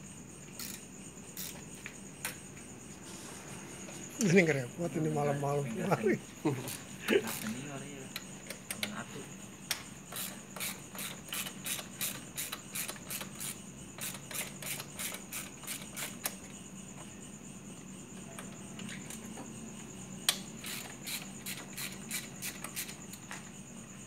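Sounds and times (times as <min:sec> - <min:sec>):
night insects chirping: 0:00.0 - 0:24.0.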